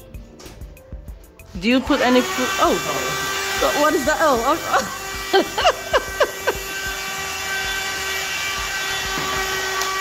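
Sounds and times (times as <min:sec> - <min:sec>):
handheld vacuum cleaner whining: 0:01.7 - 0:10.0.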